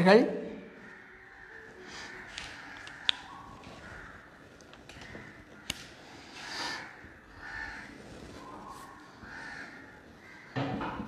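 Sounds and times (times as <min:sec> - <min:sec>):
faint harsh bird calls: 0:00.5 - 0:11.0.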